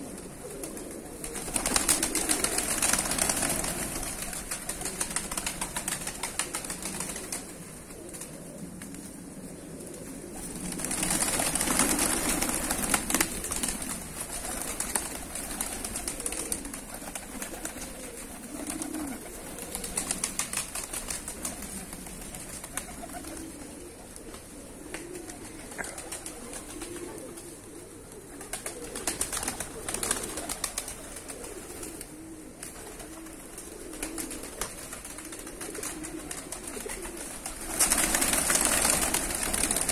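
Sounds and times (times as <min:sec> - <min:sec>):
pigeons cooing: 0:00.0 - 0:39.9
wings flapping: 0:00.0 - 0:39.9.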